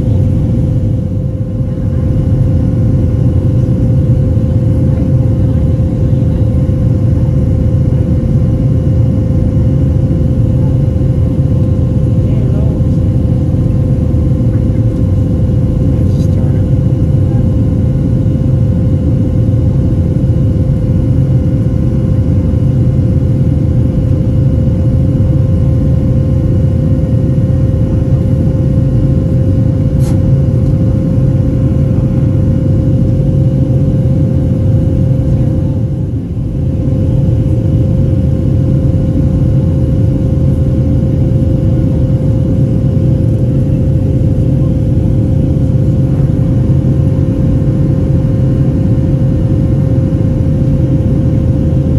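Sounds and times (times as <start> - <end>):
jet engines droning in cabin: 0.0 - 51.9.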